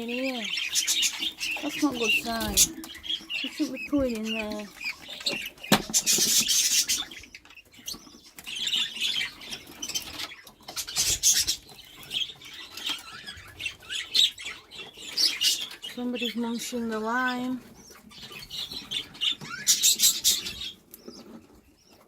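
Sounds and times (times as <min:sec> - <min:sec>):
budgerigars chirping: 0:00.0 - 0:22.0.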